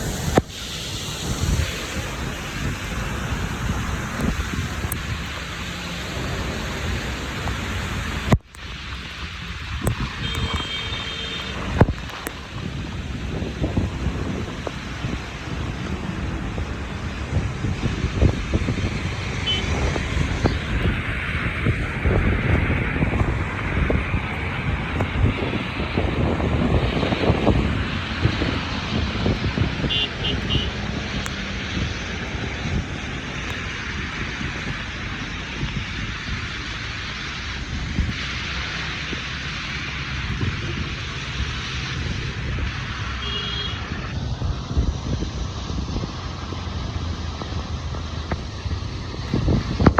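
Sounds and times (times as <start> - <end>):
heavy rain: 0.0 - 49.9
wind buffeting microphone: 0.0 - 49.9.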